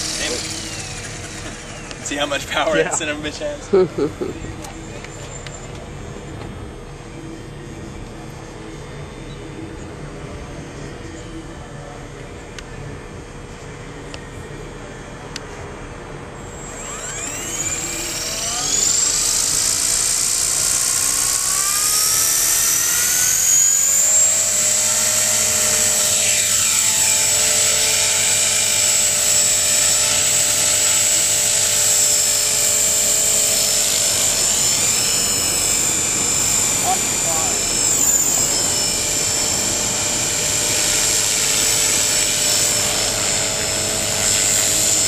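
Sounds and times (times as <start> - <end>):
rc helicopter rotor whine: 0.0 - 45.0.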